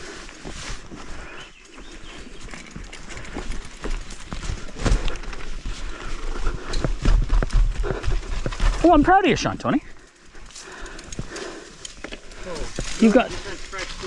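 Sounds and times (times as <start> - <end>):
mountain bike rattling over bumps: 1.8 - 14.0.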